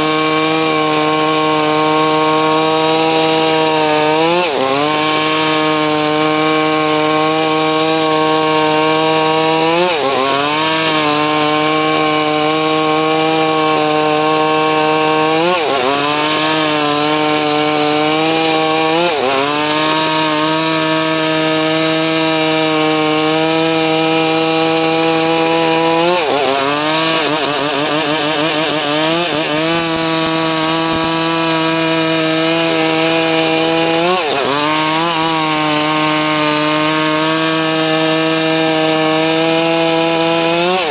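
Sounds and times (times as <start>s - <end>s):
saw engine running: 0.0s - 40.9s.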